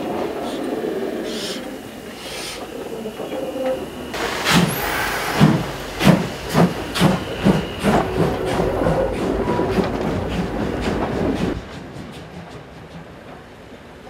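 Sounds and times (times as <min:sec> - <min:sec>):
steam hissing: 0:00.0 - 0:12.5
steam locomotive passing: 0:00.0 - 0:14.0
train clatter: 0:00.0 - 0:14.0.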